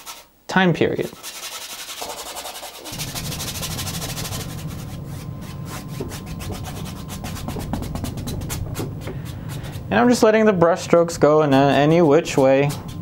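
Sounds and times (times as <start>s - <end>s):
bristle brush scrubbing canvas: 1.0s - 13.0s.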